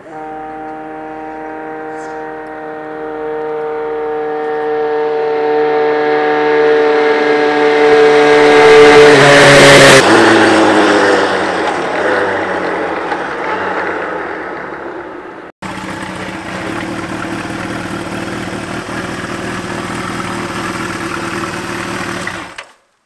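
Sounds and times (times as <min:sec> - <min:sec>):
motorcycle passing by: 0:00.0 - 0:22.7.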